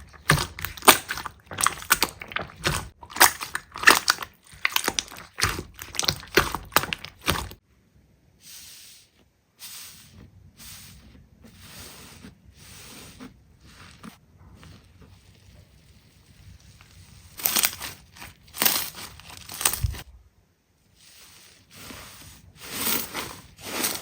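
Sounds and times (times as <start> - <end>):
slime squishing: 0.0 - 7.6, 8.5 - 20.1, 20.9 - 24.0.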